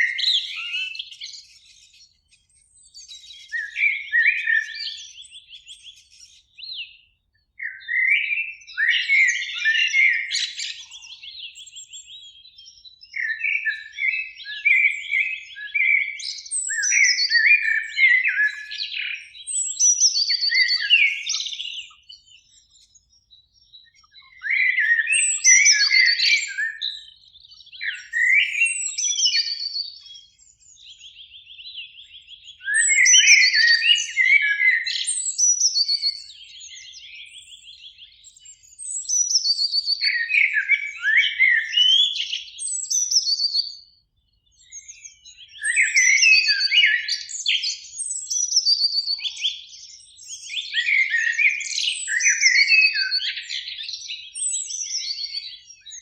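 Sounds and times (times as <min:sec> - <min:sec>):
blackbird singing: 0:00.0 - 0:56.0.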